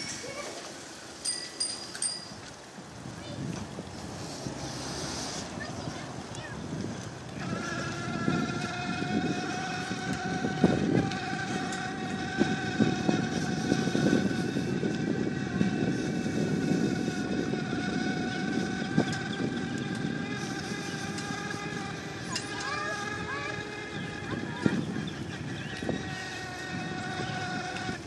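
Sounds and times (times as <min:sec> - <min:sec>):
wind: 0:00.0 - 0:28.0
electric bike motor whining: 0:03.5 - 0:28.0.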